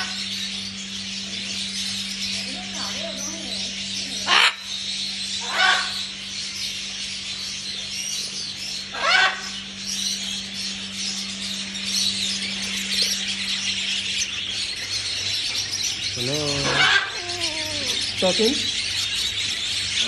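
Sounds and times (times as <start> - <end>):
parrots squawking: 0.0 - 0.4, 2.2 - 6.7, 8.8 - 20.0
low steady hum: 0.0 - 20.0
small birds chirping: 0.0 - 20.0.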